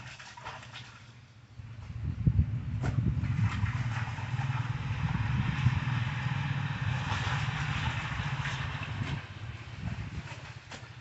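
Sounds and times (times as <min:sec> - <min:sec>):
water swishing and splashing: 0:00.0 - 0:11.0
engine running: 0:01.6 - 0:11.0.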